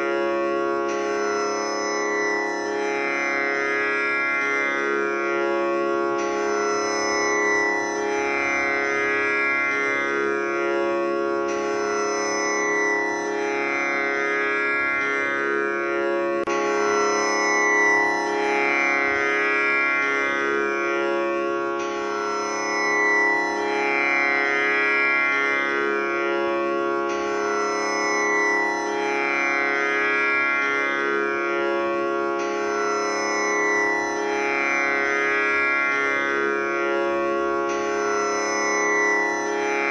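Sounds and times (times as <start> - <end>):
tanpura drone: 0.0 - 39.9.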